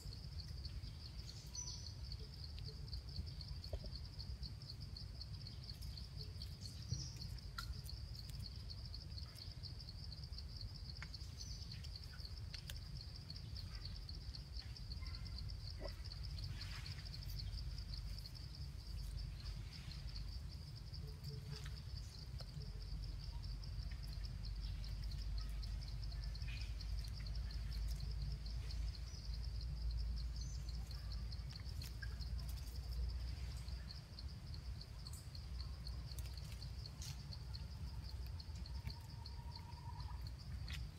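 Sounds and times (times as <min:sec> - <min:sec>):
insect trill: 0:00.0 - 0:40.9.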